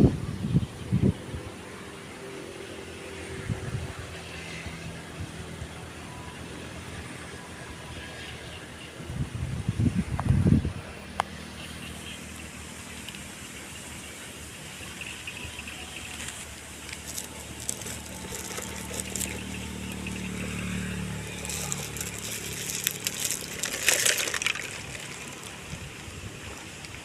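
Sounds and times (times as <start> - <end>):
engine passing by: 1.0 - 27.0.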